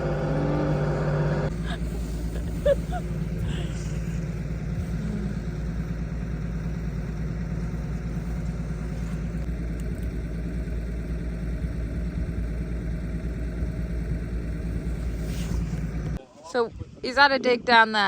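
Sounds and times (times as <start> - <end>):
engine idling: 0.0 - 16.2.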